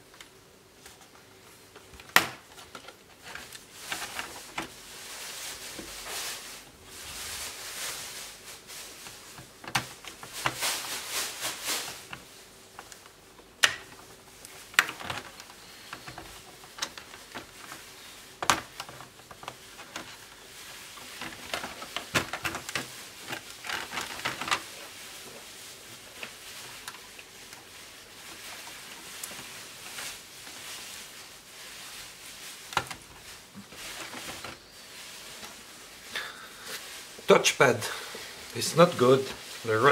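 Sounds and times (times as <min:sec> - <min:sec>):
plastic parts scraping and rattling: 0:01.8 - 0:35.6.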